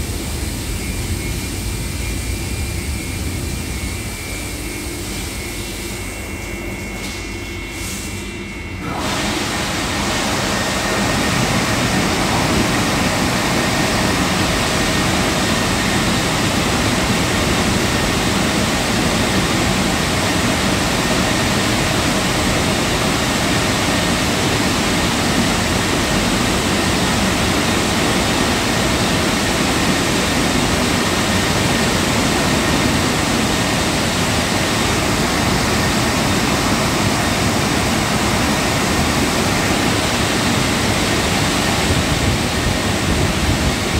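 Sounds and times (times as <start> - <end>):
car wash jets hissing: 0.0 - 8.2, 8.8 - 43.9.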